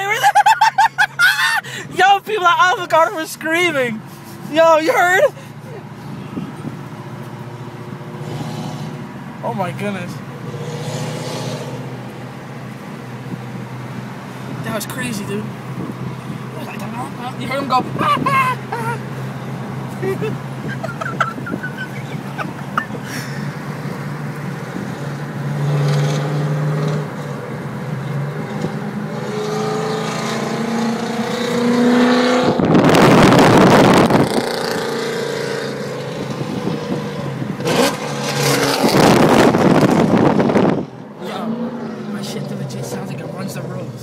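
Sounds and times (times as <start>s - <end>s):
car engine revving: 6.1s - 44.0s.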